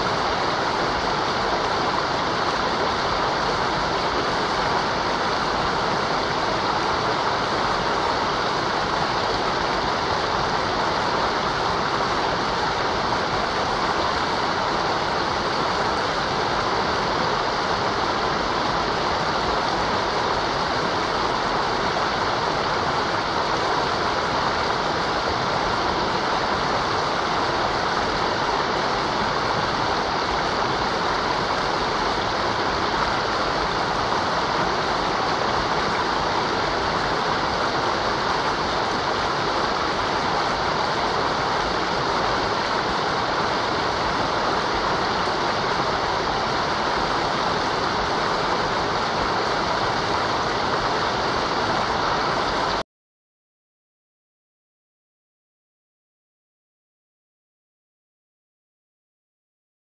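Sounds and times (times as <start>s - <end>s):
river water rushing: 0.0s - 52.8s.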